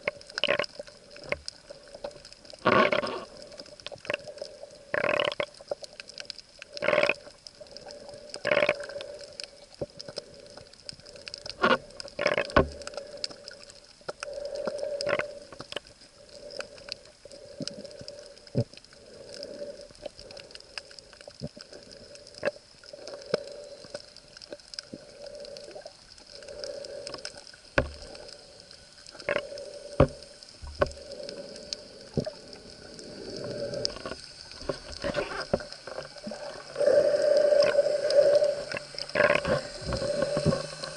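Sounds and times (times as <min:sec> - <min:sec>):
underwater gurgling and bubbling: 0:00.0 - 0:40.9.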